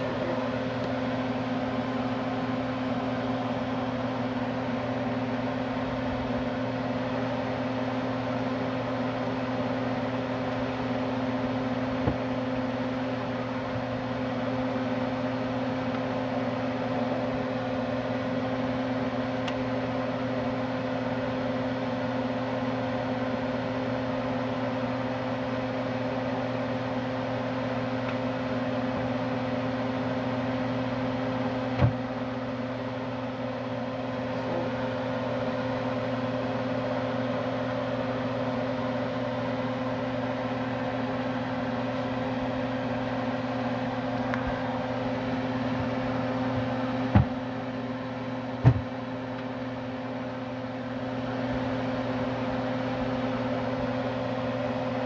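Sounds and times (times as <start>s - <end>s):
kitchen appliance motor hum: 0.0s - 55.0s.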